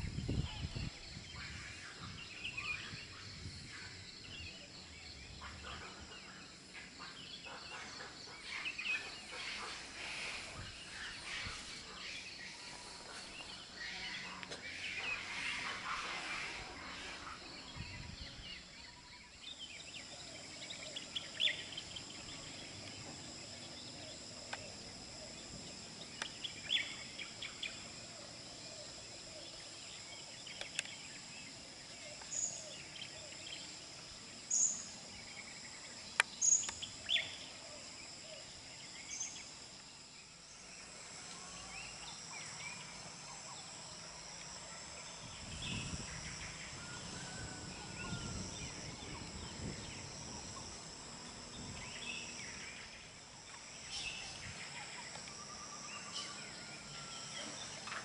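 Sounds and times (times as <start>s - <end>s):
birds chirping: 0.0s - 58.0s
high-pitched insect drone: 8.3s - 58.0s.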